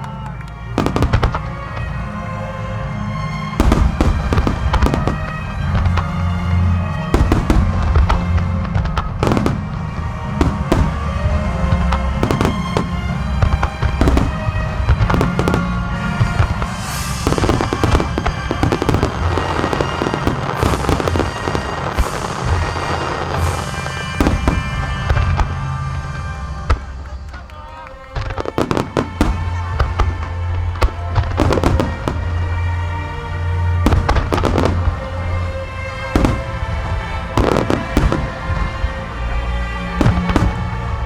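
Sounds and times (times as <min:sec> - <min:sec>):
crackling firework stars: 0:00.0 - 0:41.0
firework shells booming: 0:00.0 - 0:41.0
music: 0:00.0 - 0:41.0.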